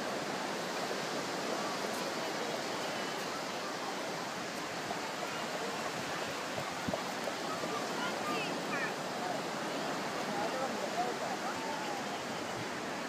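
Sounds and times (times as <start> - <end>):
surf washing on beach: 0.0 - 13.0
faint voices: 0.9 - 13.0.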